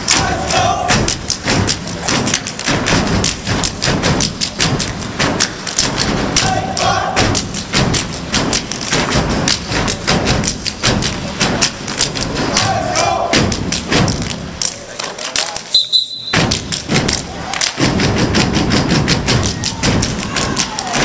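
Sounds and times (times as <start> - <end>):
stomping and clapping: 0.0 - 15.7, 16.3 - 21.0.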